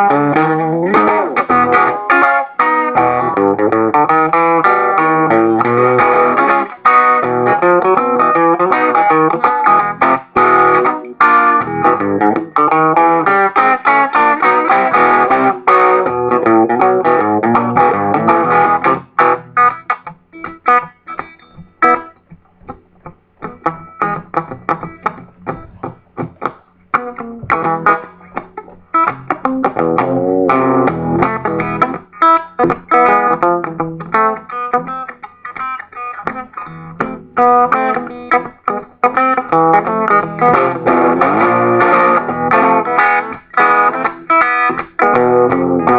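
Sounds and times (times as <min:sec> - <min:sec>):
electric guitar boogie: 0:00.0 - 0:45.9.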